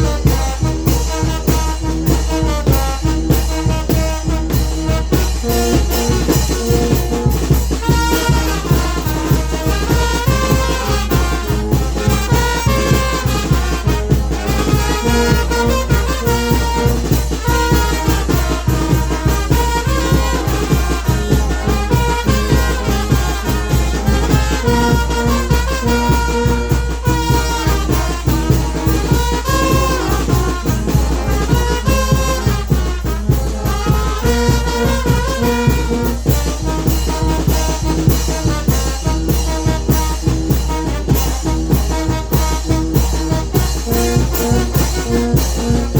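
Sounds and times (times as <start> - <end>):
brass melody: 0.0 - 45.9
driving drum beat: 0.0 - 45.9.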